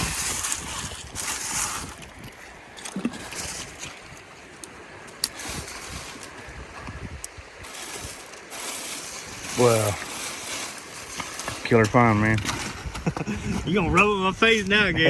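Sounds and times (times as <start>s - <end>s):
creek water splashing: 0.0s - 15.0s.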